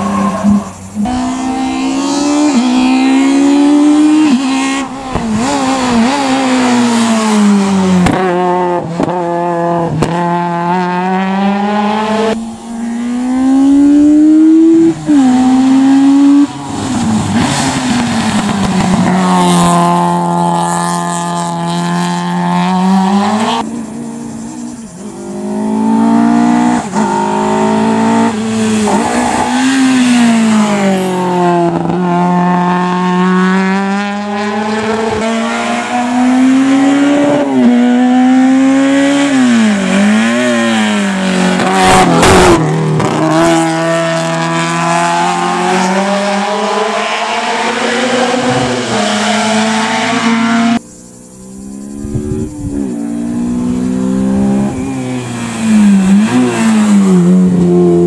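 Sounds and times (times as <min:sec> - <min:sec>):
race car engines at full power: 0:00.0 - 0:58.0.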